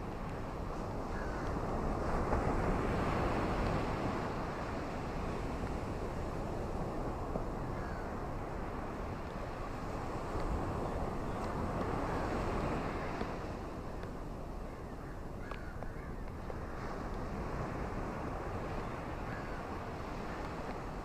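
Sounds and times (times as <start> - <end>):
ocean surf washing onto beach: 0.0 - 21.0.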